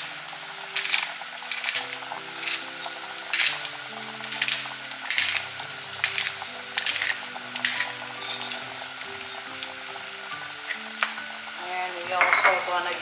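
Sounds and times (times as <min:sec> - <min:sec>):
background music with low notes: 0:00.0 - 0:13.0
chicken sizzling in a frying pan: 0:00.0 - 0:13.0.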